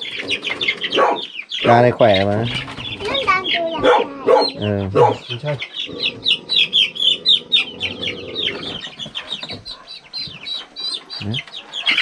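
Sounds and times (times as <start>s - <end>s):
young chickens peeping: 0.0s - 12.0s.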